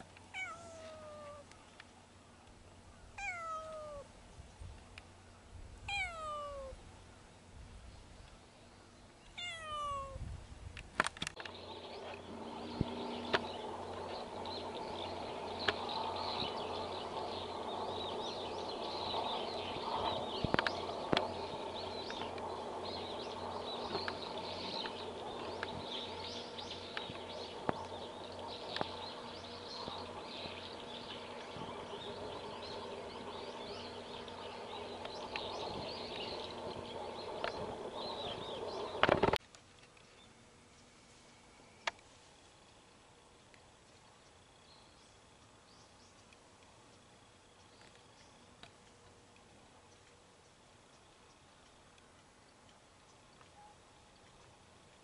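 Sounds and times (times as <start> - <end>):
small birds chirping: 0.0 - 10.2, 11.3 - 55.0
low steady hum: 0.0 - 55.0.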